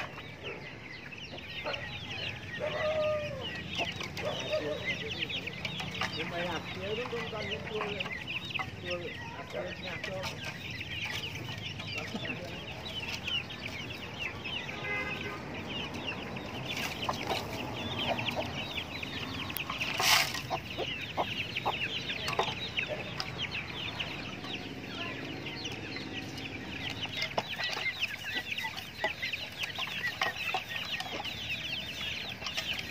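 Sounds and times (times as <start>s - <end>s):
chicks peeping: 0.0s - 32.9s
hen clucking: 0.0s - 32.9s.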